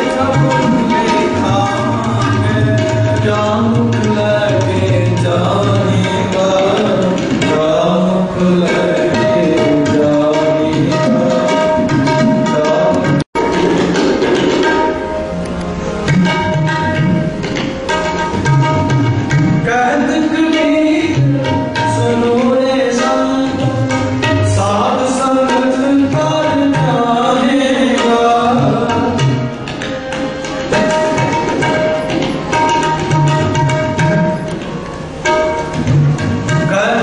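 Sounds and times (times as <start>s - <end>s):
harmonium notes: 0.0s - 37.0s
tabla rhythm: 0.0s - 37.0s.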